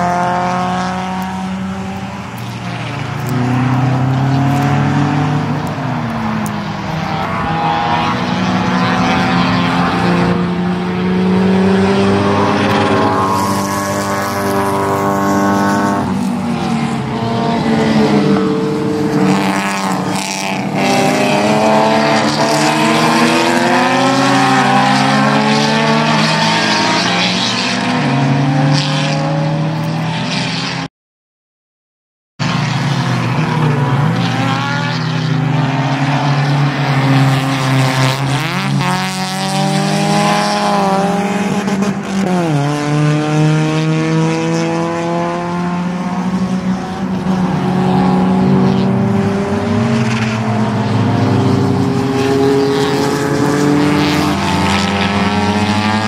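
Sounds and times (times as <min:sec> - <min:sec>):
race car engines revving: 0:00.0 - 0:30.9, 0:32.4 - 0:56.0.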